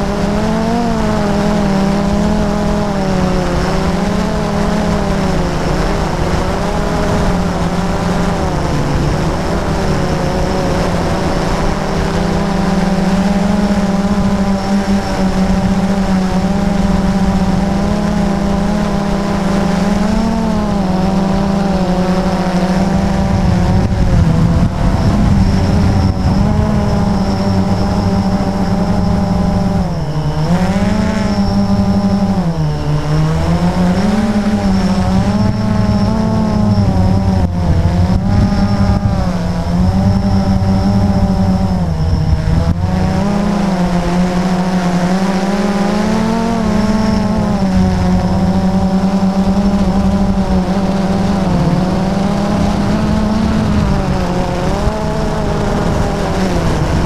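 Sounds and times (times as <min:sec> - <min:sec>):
small aircraft motor and propeller: 0:00.0 - 0:57.0.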